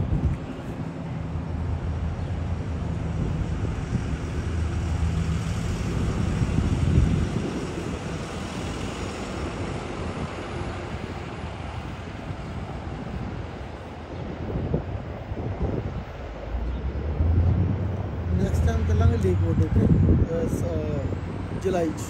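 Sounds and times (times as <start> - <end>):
rail and wheel noise: 0.0 - 22.0
train engine hum: 0.0 - 22.0.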